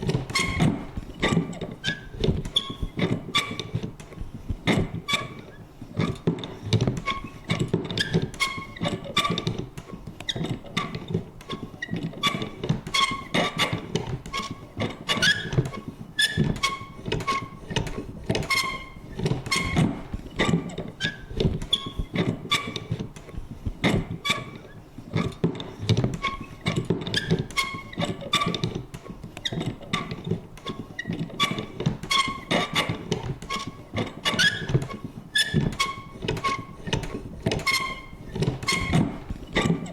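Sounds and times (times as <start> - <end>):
paper punch mechanism creaking: 0.0 - 39.9.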